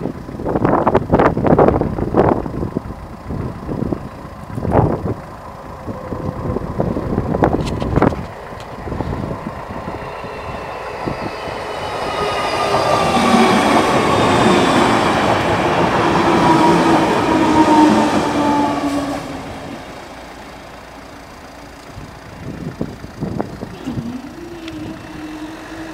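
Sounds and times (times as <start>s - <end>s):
electric train passing: 0.0s - 25.9s
motor and wheel whine: 0.0s - 25.9s.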